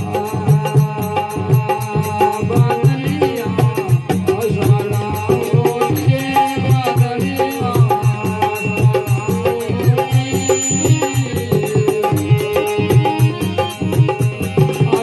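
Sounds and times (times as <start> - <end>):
hand drum beat: 0.0 - 15.0
melodic instrumental line: 0.0 - 15.0.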